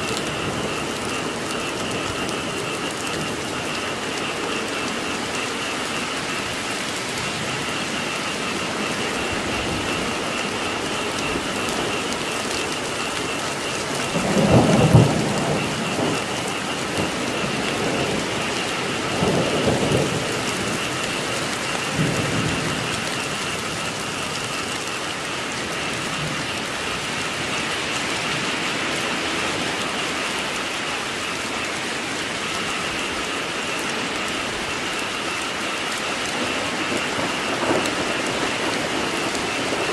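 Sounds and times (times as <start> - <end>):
frog chorus: 0.0 - 39.9
heavy rain: 0.0 - 39.9
thunder rolling: 0.0 - 39.9.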